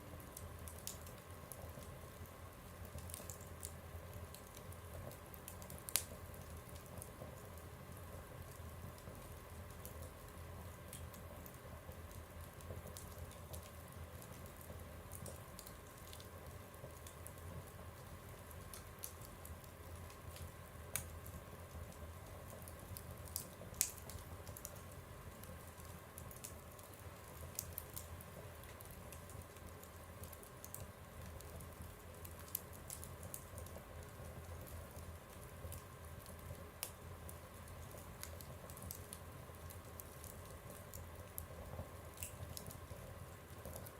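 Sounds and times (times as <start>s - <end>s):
fire crackles and pops: 0.0s - 43.9s
wood fire rumbling in stove: 0.0s - 43.9s.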